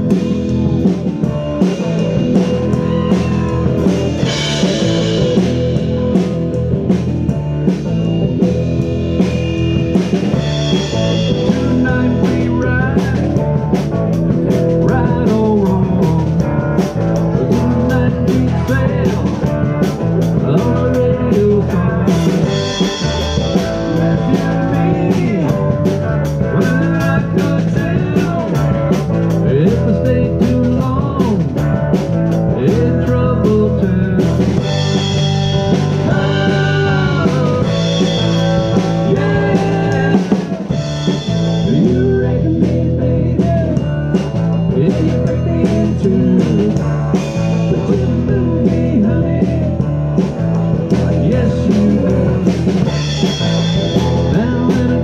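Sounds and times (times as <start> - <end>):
drum kit steady beat: 0.0 - 55.0
electric bass: 0.0 - 55.0
electric guitar: 0.0 - 55.0.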